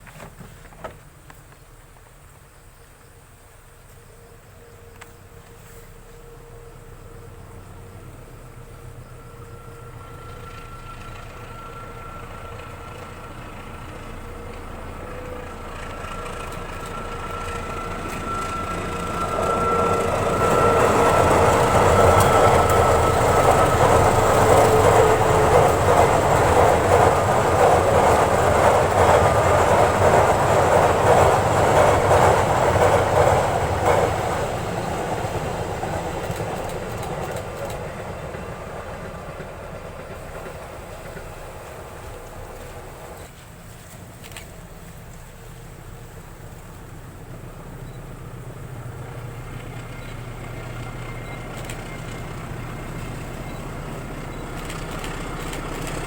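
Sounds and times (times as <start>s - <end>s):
train wheels clattering over rails: 7.2s - 56.0s.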